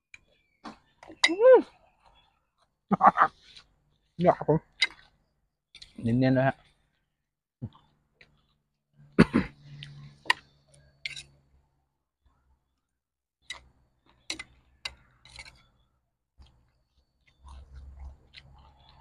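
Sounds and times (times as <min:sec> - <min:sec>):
chewing crunchy food: 0:00.3 - 0:07.1, 0:07.7 - 0:10.9, 0:13.5 - 0:19.0.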